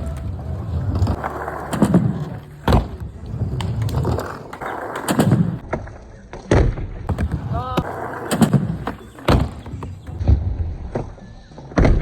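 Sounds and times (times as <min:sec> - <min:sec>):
skateboard wheels rumbling: 0:00.0 - 0:06.2, 0:07.1 - 0:11.2.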